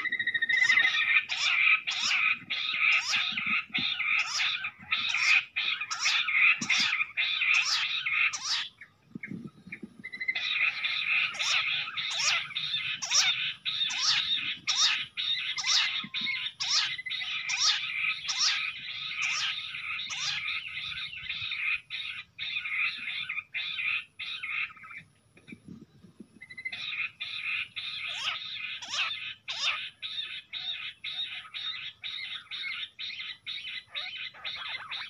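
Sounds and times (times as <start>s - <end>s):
quail chattering and whistling: 0.0s - 35.0s.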